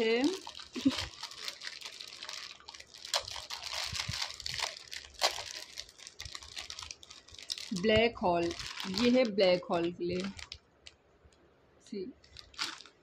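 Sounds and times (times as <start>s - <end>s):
plastic bag crinkling: 0.0s - 10.6s, 12.2s - 13.0s.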